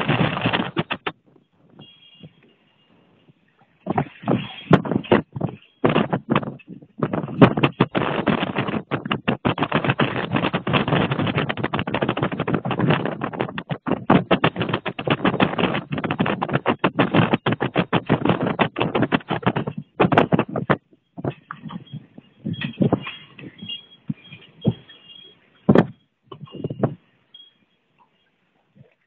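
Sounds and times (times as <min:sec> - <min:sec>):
wind buffeting microphone: 0:00.0 - 0:27.1.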